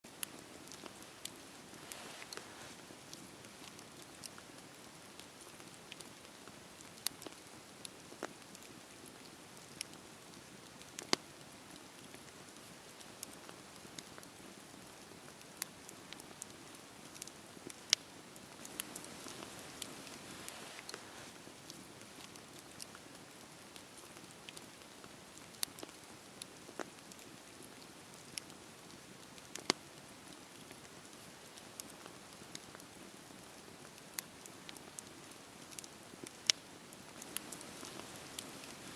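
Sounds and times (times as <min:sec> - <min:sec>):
campfire hissing and crackling: 0:00.1 - 0:38.9.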